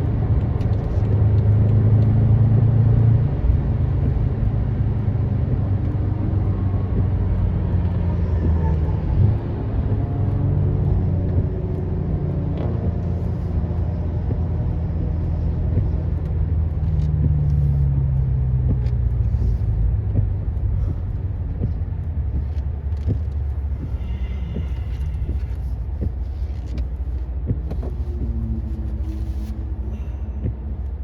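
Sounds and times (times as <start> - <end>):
car engine idling drone: 0.0 - 31.0.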